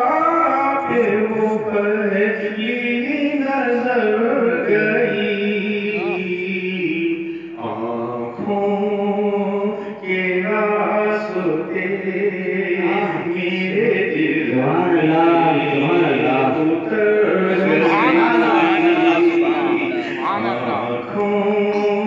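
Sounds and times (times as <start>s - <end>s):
man singing devotional poem: 0.0s - 22.0s.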